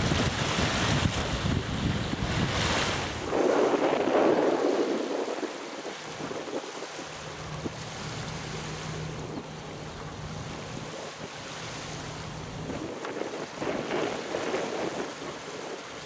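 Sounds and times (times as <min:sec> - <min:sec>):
wind on microphone: 0:00.0 - 0:09.5, 0:10.2 - 0:16.0
small waves lapping: 0:00.0 - 0:16.0.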